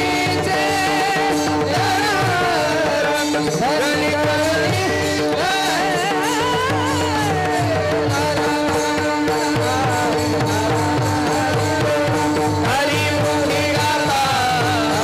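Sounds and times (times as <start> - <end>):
chorus singing a devotional chant: 0.0 - 15.0.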